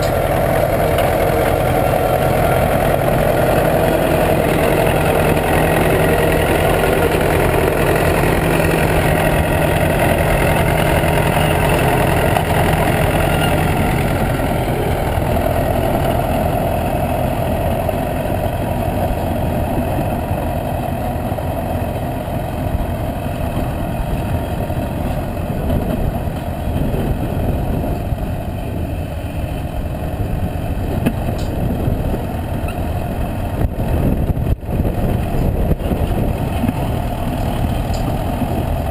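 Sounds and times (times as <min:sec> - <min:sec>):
bulldozer engine running: 0:00.0 - 0:38.9.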